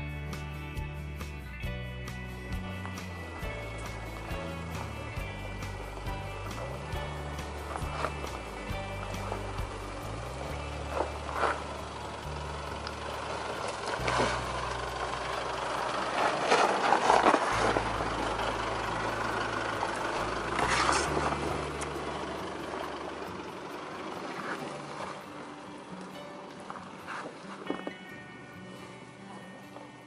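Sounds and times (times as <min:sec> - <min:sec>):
diesel engine running low: 0:00.0 - 0:30.0
tyres crunching over gravel: 0:02.2 - 0:30.0.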